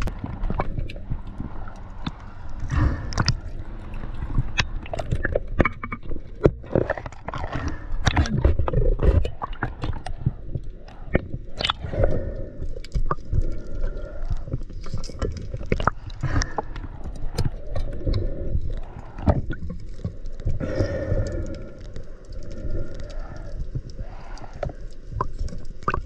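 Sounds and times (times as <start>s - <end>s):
muffled underwater rumble: 0.0s - 26.0s.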